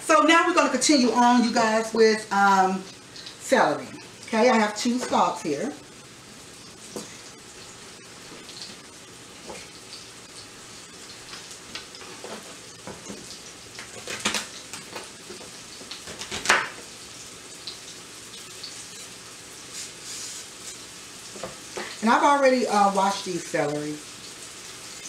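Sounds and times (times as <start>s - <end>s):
meat sizzling in a skillet: 0.5s - 25.0s.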